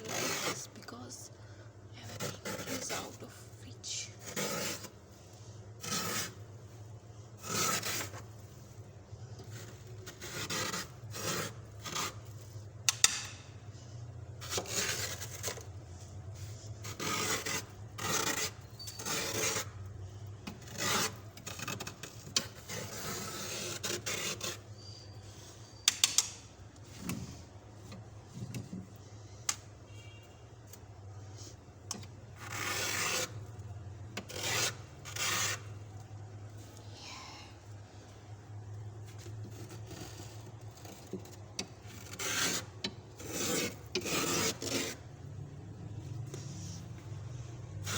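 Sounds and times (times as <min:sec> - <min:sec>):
frost scraping in freezer: 0:00.0 - 0:13.0, 0:13.6 - 0:25.7, 0:31.0 - 0:36.8, 0:37.9 - 0:47.9.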